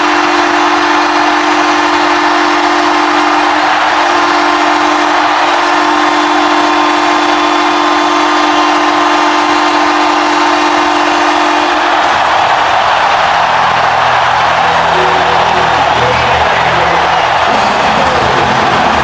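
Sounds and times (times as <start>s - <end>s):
crowd cheering: 0.0s - 19.0s
low goal horn blast: 0.0s - 19.0s.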